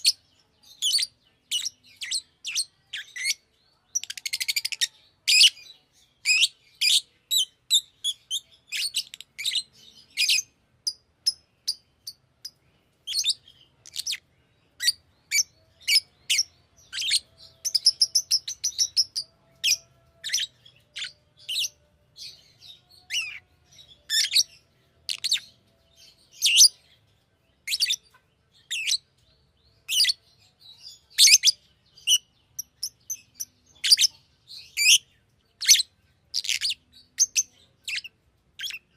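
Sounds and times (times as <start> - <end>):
lovebird chirping: 0.0 - 38.9.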